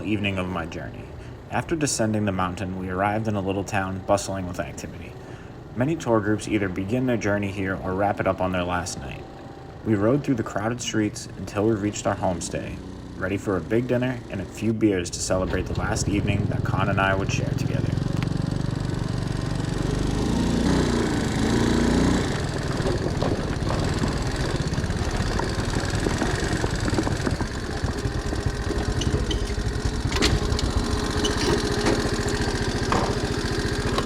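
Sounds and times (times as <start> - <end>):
small motorbike engine running: 0.0 - 34.0.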